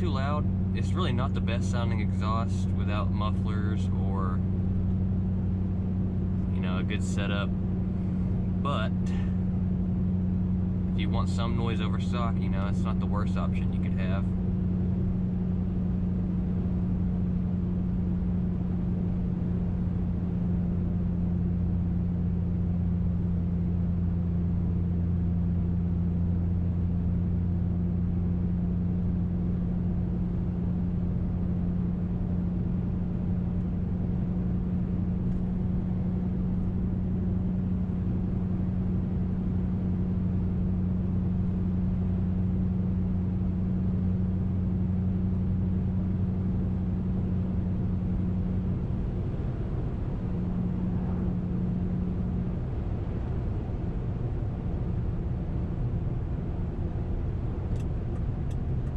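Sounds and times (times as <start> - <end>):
car engine droning from inside cabin: 0.0 - 58.9.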